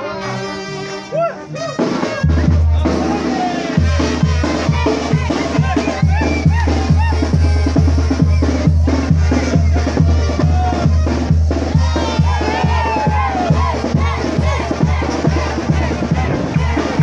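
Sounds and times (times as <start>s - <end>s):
band music: 0.0s - 17.0s
voices: 0.0s - 17.0s
bass drum beat: 1.7s - 17.0s.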